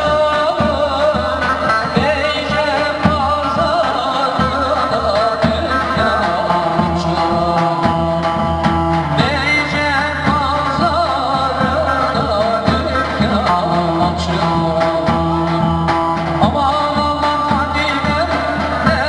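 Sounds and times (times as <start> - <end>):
bass line: 0.0 - 19.0
ornamented lead melody: 0.0 - 19.0
steady drum beat: 0.0 - 19.0.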